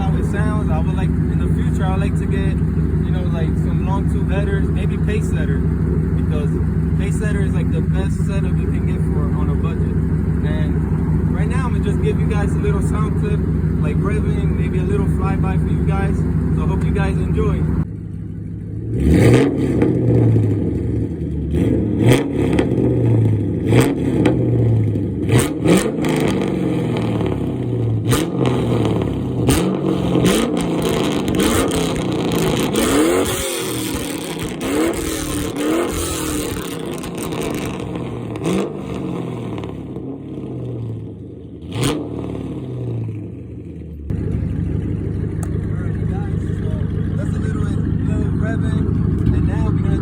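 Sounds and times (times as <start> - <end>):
car engine revving: 0.0 - 50.0
exhaust cracks: 0.0 - 50.0.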